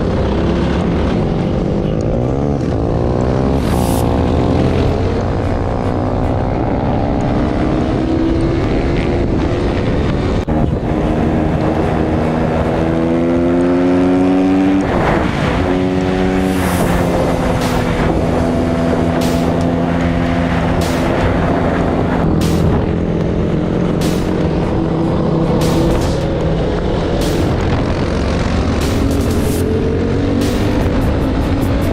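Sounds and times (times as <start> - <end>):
off-road vehicle engine revving: 0.0 - 31.9
wind rushing on microphone: 0.0 - 31.9.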